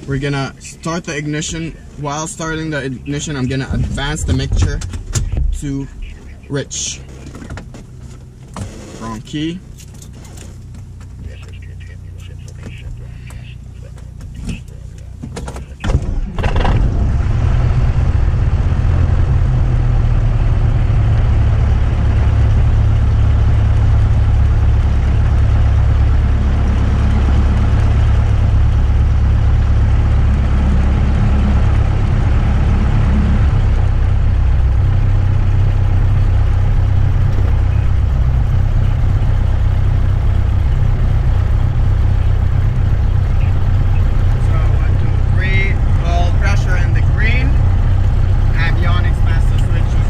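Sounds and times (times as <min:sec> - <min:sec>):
aircraft engine idling: 0:00.0 - 0:07.5, 0:10.6 - 0:50.0.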